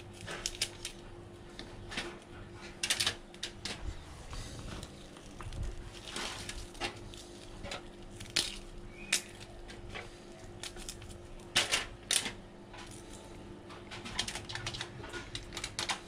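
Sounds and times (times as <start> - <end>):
aluminium foil crinkling: 0.0 - 1.1, 2.8 - 16.0.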